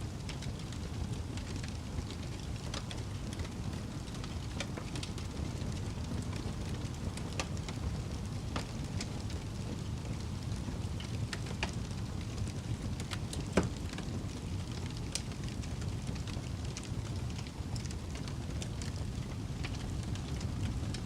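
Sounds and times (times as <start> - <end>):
fire crackles and pops: 0.0 - 21.0
wood fire burning: 0.0 - 21.0.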